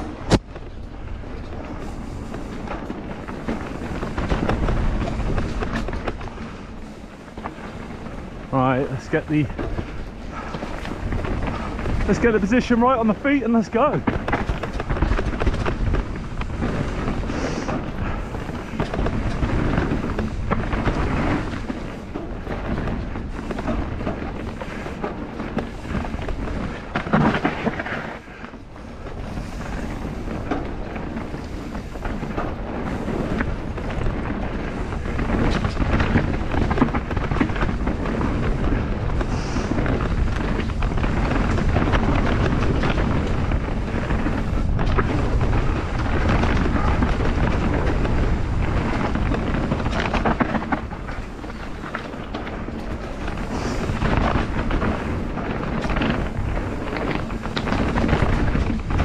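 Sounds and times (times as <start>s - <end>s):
bike tyres rumbling over stones: 0.0s - 59.0s
wind buffeting microphone: 0.0s - 59.0s.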